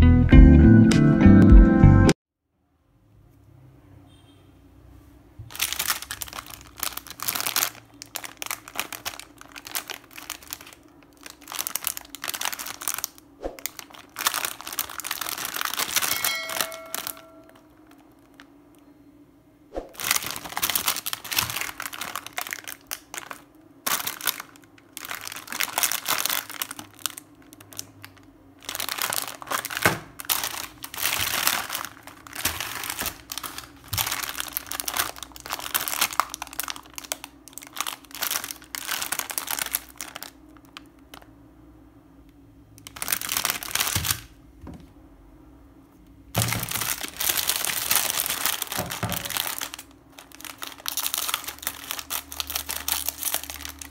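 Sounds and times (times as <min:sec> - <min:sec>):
plastic packets crinkling: 0:05.5 - 0:18.6, 0:19.9 - 0:41.3, 0:42.8 - 0:44.4, 0:46.3 - 0:53.9.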